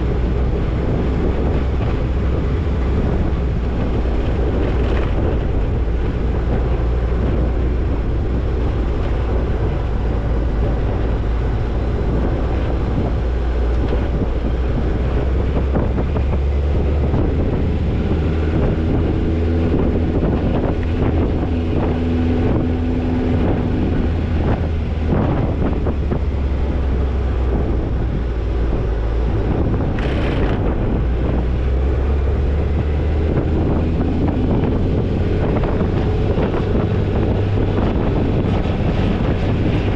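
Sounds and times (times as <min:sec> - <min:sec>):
engine and drivetrain rumble: 0:00.0 - 0:39.9.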